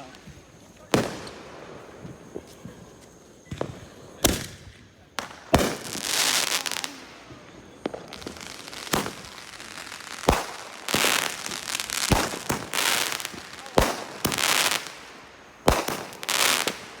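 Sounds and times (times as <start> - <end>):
fireworks banging: 0.0 - 17.0
fireworks crackling: 0.0 - 17.0.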